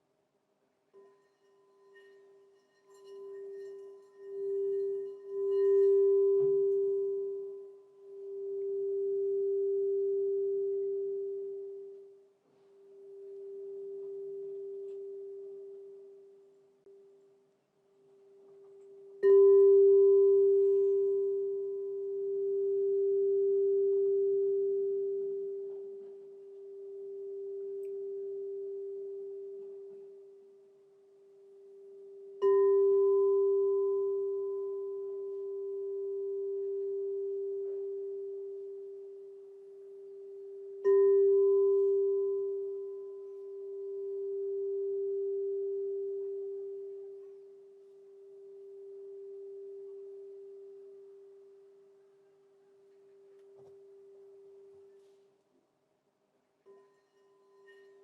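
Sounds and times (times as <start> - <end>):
singing bowl ringing: 0.9 - 17.2, 18.2 - 52.1, 56.6 - 58.0.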